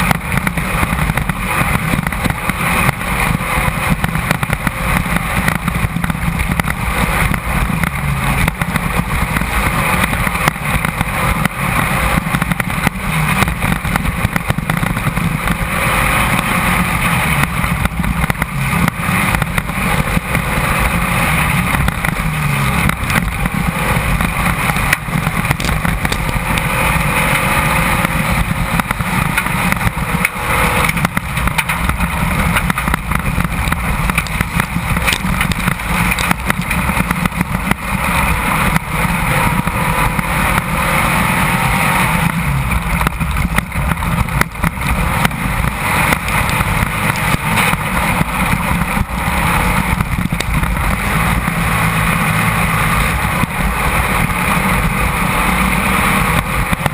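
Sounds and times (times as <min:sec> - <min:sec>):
race car engine: 0:00.0 - 0:56.9
wind noise: 0:00.0 - 0:56.9.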